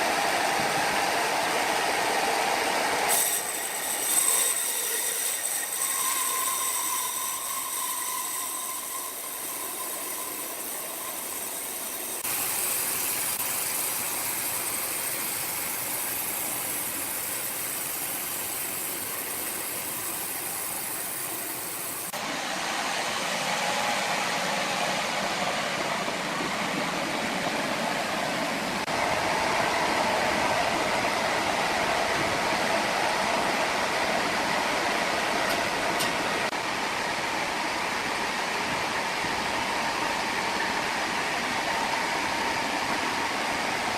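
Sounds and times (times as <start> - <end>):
sawmill machinery running: 0.0 - 43.9.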